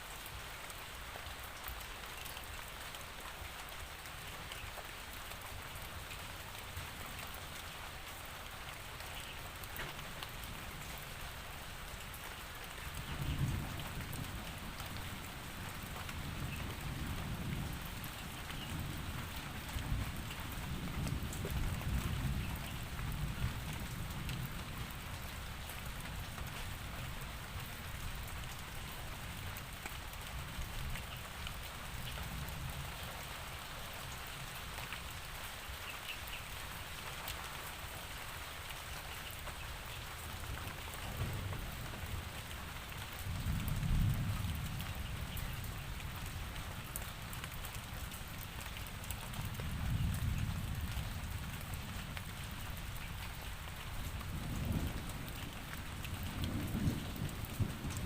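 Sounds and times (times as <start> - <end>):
rain hissing and pattering: 0.0 - 58.0.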